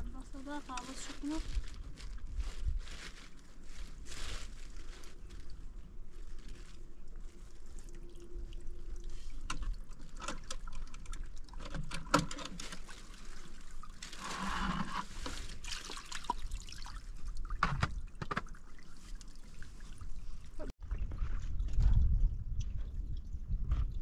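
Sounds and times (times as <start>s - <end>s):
water pouring and trickling: 3.8s - 24.0s.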